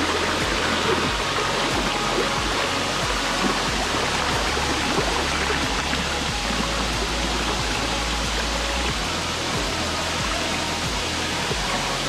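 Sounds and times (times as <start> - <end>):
faint background music: 0.0 - 12.0
waterfall rushing: 0.0 - 12.0.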